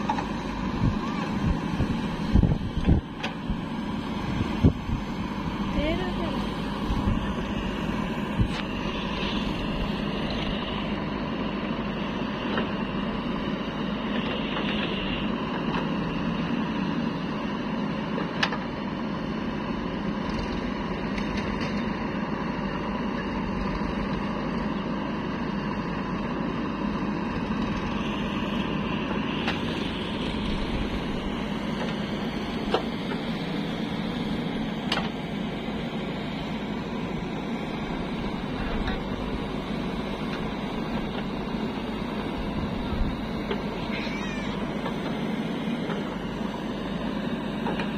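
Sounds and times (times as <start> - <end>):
backhoe digging soil: 0.0 - 47.9
diesel engine running: 0.0 - 47.9.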